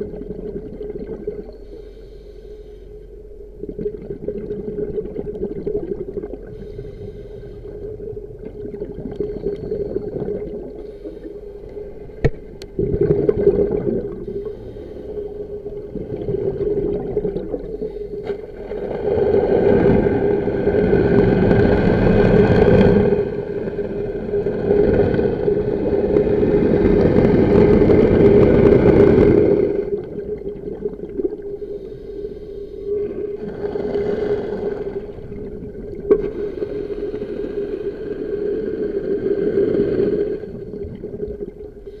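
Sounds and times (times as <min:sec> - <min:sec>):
regulator bubbles gurgling underwater: 0:00.0 - 0:42.0
steady hum: 0:00.0 - 0:42.0.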